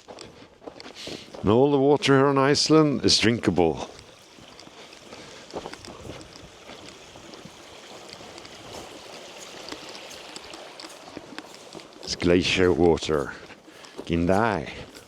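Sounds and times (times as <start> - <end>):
mountain stream flowing: 1.0 - 15.0.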